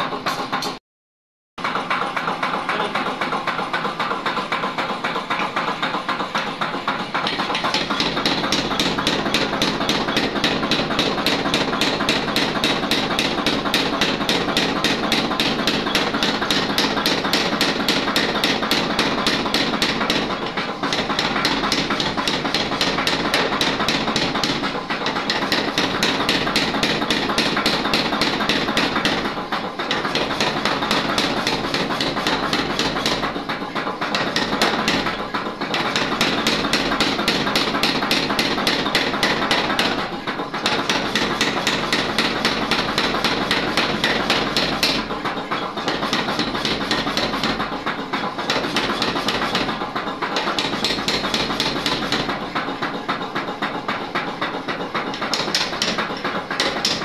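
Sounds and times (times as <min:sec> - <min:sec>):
power hammer pounding iron: 0:00.0 - 0:00.8, 0:01.6 - 0:57.0.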